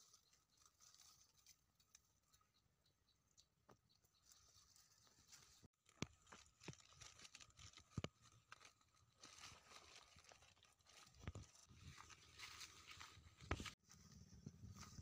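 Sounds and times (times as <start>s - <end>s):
rustling through undergrowth: 0.0s - 2.4s, 4.0s - 15.0s.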